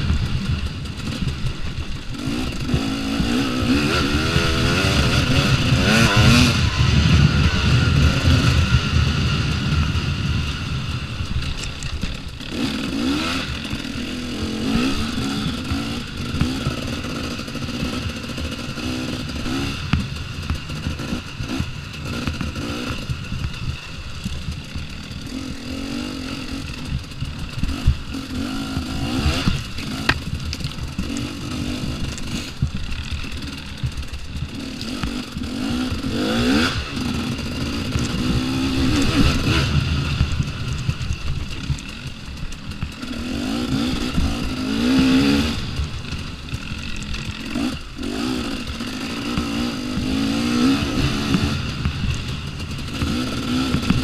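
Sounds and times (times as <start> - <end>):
bike rattling over bumps: 0.0 - 54.0
dirt bike engine revving: 0.0 - 54.0.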